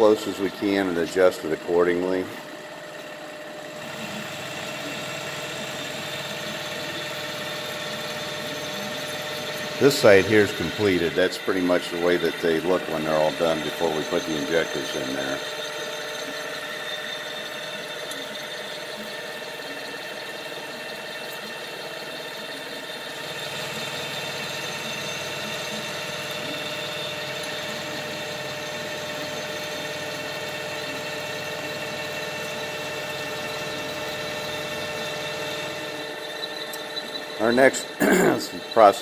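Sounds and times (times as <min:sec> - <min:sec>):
milling machine cutting metal: 0:00.0 - 0:39.0.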